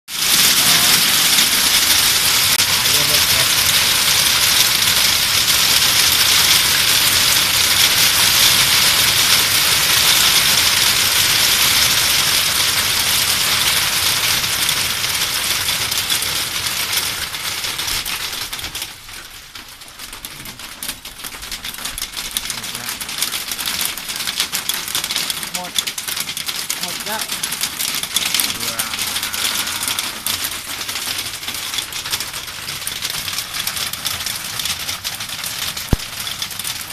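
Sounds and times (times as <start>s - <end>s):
hail clattering on ground: 0.1s - 36.9s.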